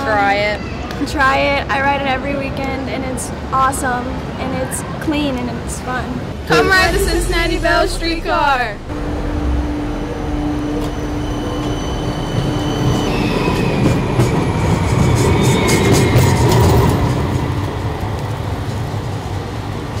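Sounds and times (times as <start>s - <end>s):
streetcar electric hum and whine: 3.0s - 20.0s.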